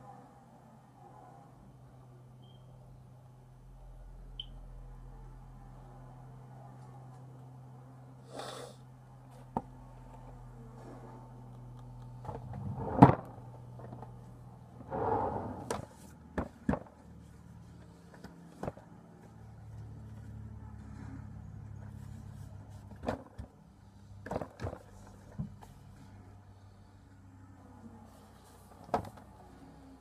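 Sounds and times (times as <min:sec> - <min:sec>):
low steady hum: 0:00.0 - 0:08.2, 0:08.8 - 0:30.0.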